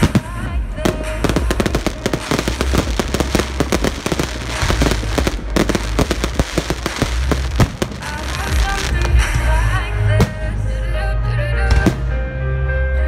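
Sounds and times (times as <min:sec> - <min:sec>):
fireworks bangs and crackles: 0:00.0 - 0:10.6, 0:11.6 - 0:12.2
deep fireworks booms: 0:00.0 - 0:10.7.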